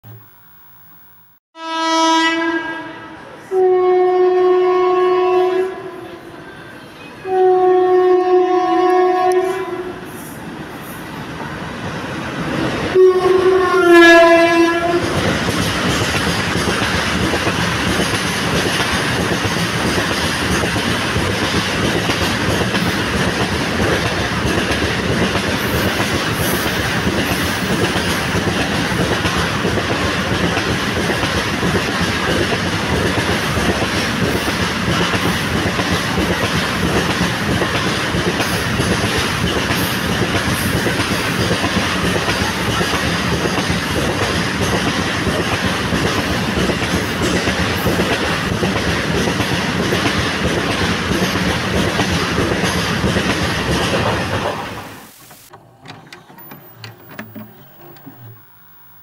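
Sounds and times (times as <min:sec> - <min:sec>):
train wheels on rails: 0:05.3 - 0:58.6
freight train wagons rolling past: 0:08.4 - 0:58.3.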